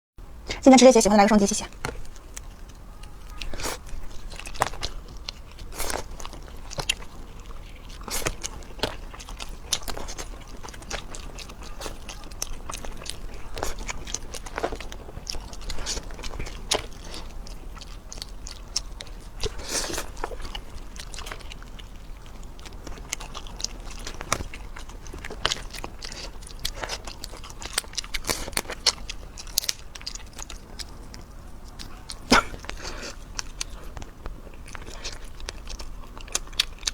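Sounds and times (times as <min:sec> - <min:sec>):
person chewing crunchy food: 0:01.7 - 0:36.9.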